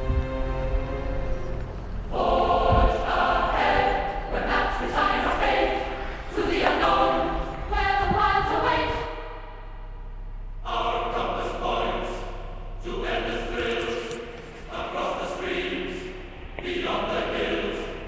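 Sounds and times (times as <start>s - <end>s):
music with choir singing: 0.0s - 18.0s.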